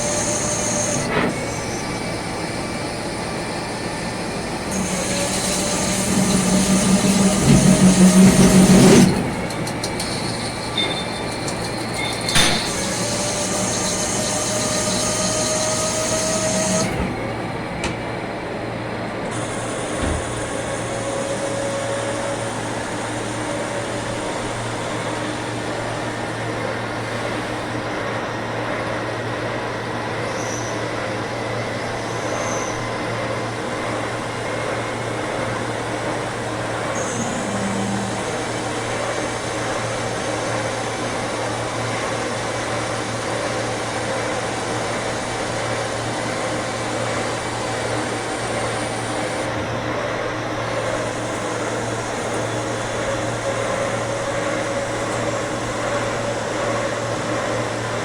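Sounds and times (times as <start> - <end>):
lathe machine hum: 0.0 - 58.0.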